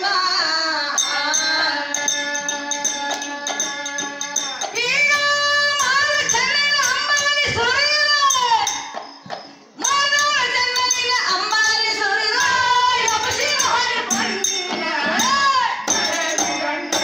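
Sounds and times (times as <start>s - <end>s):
person singing folk song: 0.0s - 9.0s, 9.8s - 17.0s
hand cymbals clinking: 0.9s - 17.0s.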